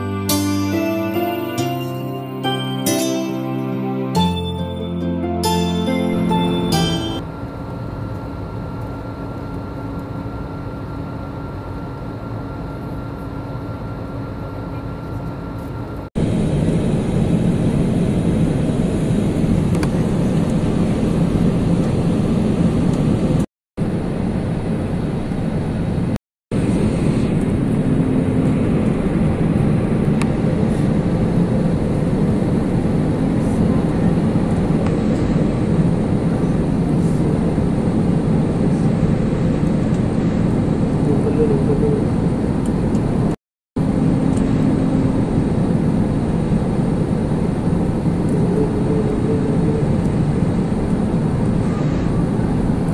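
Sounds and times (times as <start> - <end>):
airliner engines and rushing air: 5.9 - 52.9.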